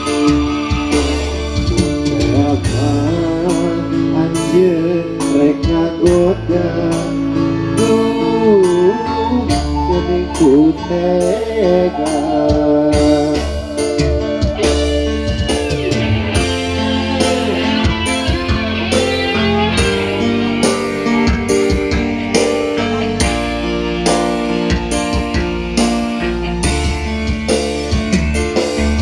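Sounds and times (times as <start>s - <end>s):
electric guitar lead: 0.0s - 29.0s
keyboard: 0.0s - 29.0s.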